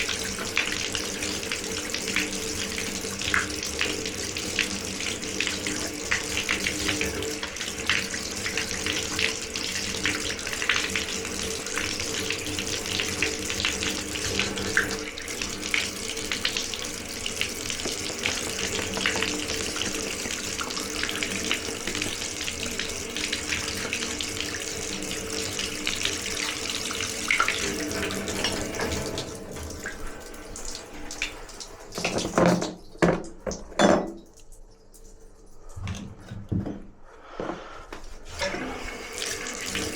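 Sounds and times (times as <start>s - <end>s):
water running from a tap: 0.0s - 36.2s, 38.1s - 39.9s.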